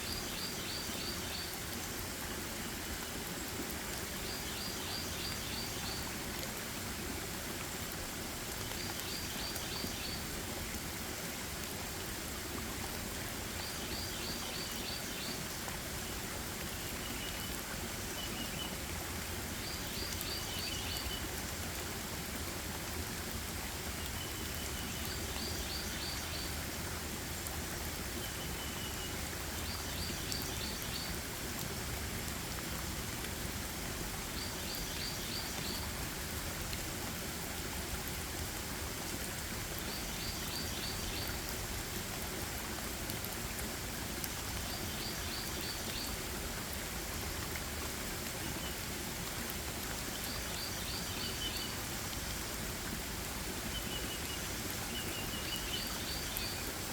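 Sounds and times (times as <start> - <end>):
rain hiss: 0.0 - 56.9.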